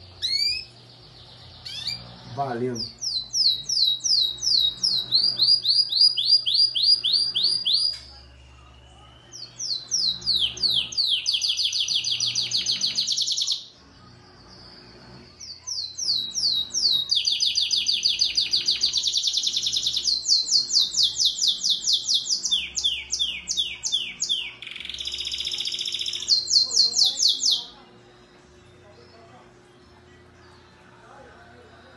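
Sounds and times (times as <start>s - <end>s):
canary singing: 0.0s - 31.1s.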